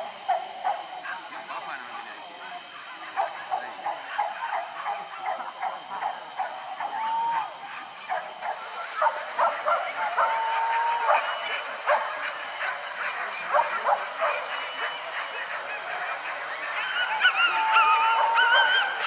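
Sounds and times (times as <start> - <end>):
hunting dogs yapping and yelping: 3.0 - 19.0.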